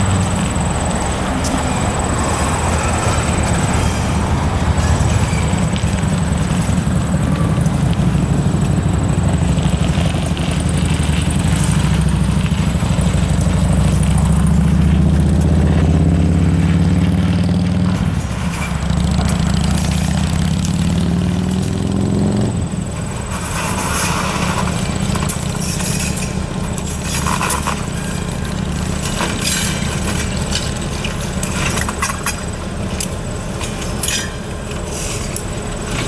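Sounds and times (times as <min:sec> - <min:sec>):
diesel locomotive engine throbbing: 0:00.0 - 0:36.0.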